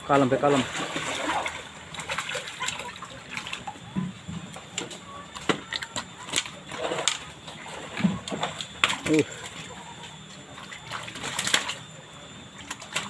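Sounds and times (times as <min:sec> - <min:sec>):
fish splashing in water: 0:00.4 - 0:04.0, 0:04.6 - 0:13.0.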